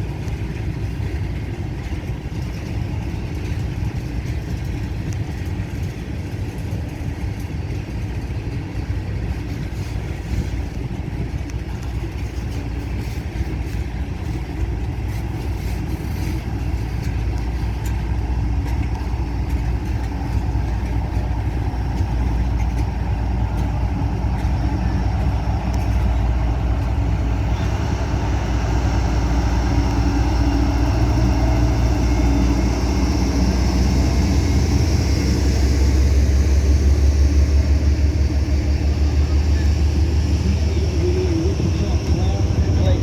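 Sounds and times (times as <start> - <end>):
freight train rumbling past: 0.0 - 43.0
low diesel hum: 0.0 - 43.0.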